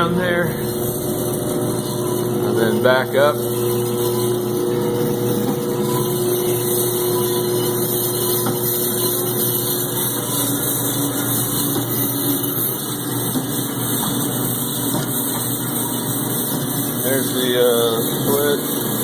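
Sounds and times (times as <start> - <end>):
bandsaw motor humming: 0.0 - 19.0.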